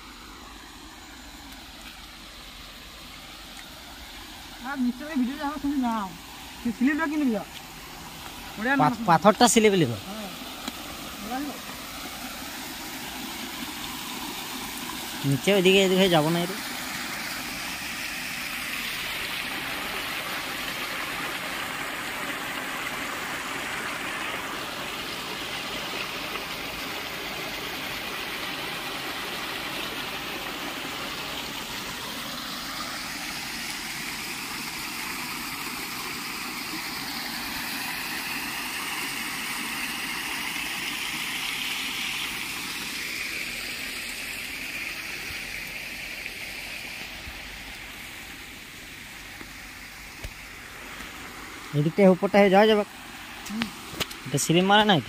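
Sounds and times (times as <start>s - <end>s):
water pouring over a dam: 0.0s - 55.0s.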